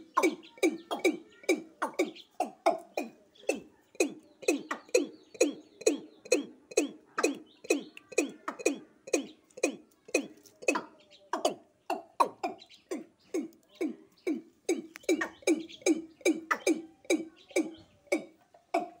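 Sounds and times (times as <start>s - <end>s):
bird calling low notes: 0.0s - 19.0s.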